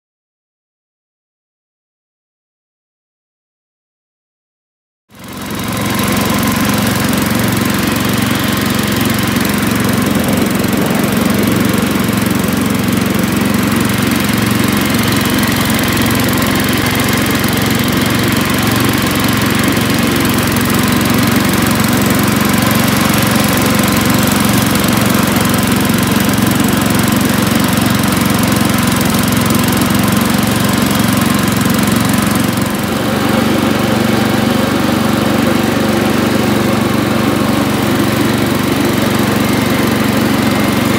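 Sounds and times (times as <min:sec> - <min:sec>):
lawn tractor engine running: 0:05.1 - 0:40.9.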